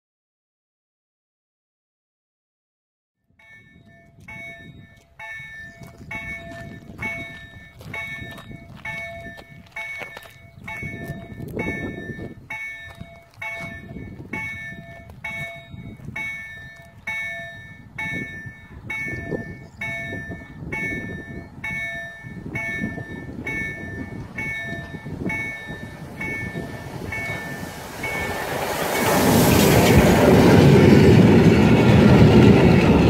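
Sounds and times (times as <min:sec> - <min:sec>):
level-crossing warning bell ringing: 0:03.3 - 0:31.1
steam train rumble: 0:03.5 - 0:33.0.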